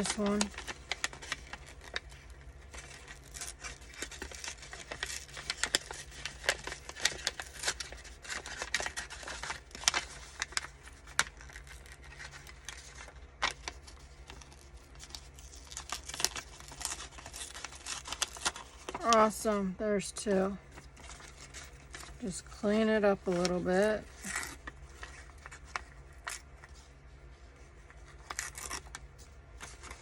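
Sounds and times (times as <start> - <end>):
paper envelope crinkling and tearing: 0.0 - 19.7, 20.6 - 30.0.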